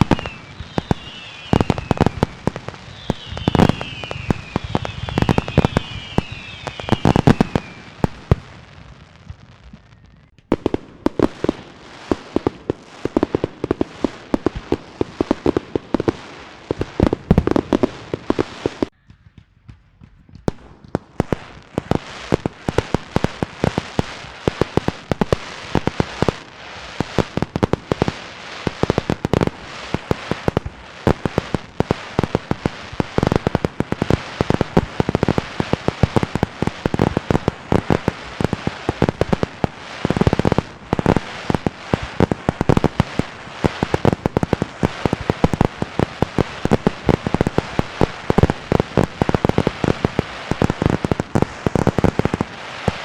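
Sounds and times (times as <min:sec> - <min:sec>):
firecrackers banging and popping: 0:00.0 - 0:53.0
fireworks falling whistles: 0:00.0 - 0:53.0.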